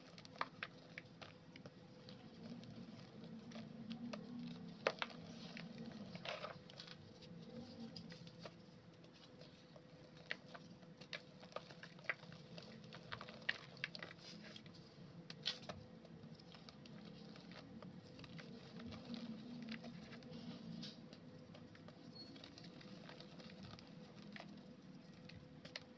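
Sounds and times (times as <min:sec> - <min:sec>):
crumbs pattering into a tub: 0:00.0 - 0:25.9
dry mud crumbling by hand: 0:00.0 - 0:25.9.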